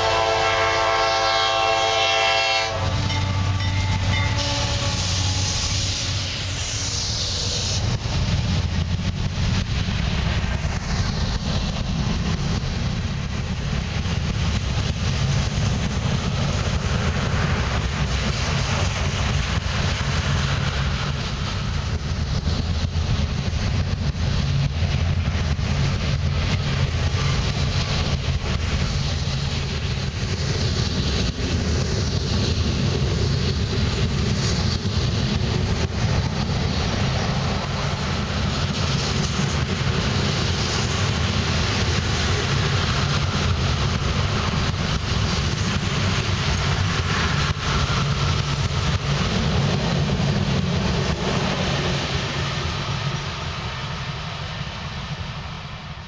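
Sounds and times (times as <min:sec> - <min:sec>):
train cars rattling: 0:00.0 - 0:56.0
train wheels rumbling on rails: 0:00.0 - 0:56.0.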